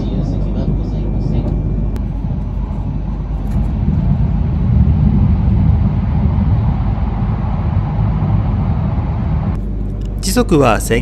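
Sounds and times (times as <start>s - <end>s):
train rumble inside cabin: 0.0s - 10.4s.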